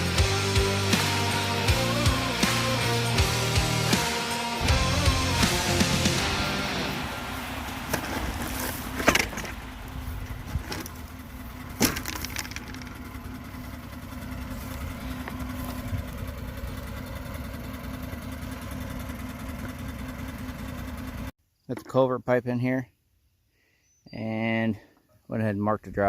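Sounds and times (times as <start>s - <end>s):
engine idling: 0.0s - 21.3s.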